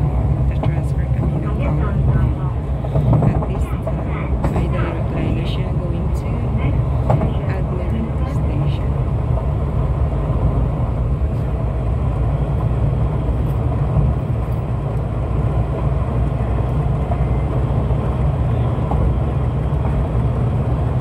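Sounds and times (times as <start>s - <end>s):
electric train rumbling at speed: 0.0s - 21.0s.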